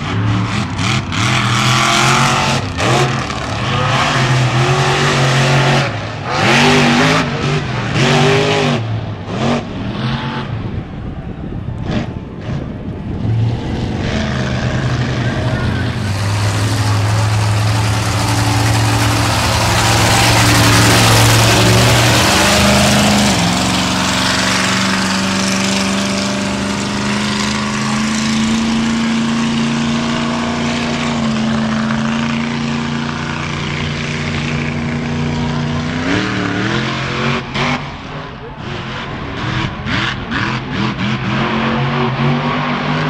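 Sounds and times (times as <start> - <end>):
monster truck engine revving: 0.0 - 10.9, 11.5 - 43.0.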